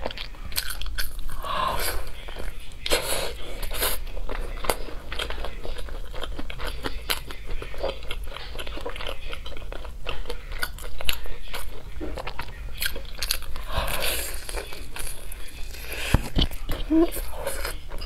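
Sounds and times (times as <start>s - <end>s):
crunching and chewing fried chicken: 0.0s - 18.0s.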